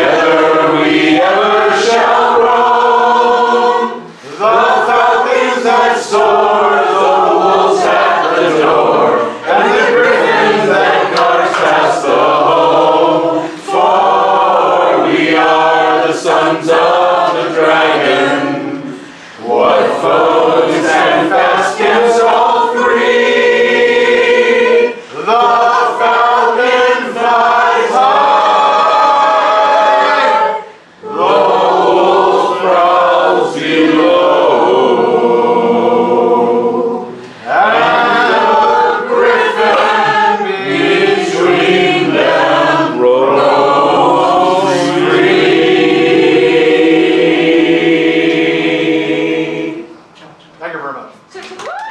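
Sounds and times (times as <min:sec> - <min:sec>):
group singing a cappella: 0:00.0 - 0:50.2.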